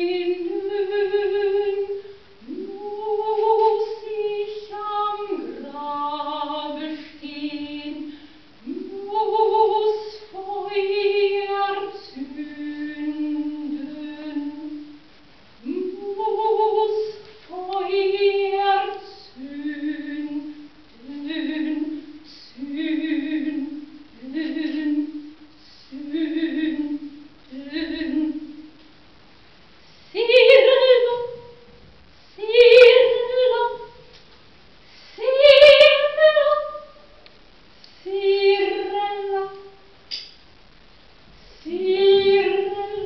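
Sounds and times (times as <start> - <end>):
woman singing unaccompanied: 0.0 - 28.9, 30.1 - 34.2, 35.1 - 37.3, 37.9 - 40.0, 41.6 - 43.0.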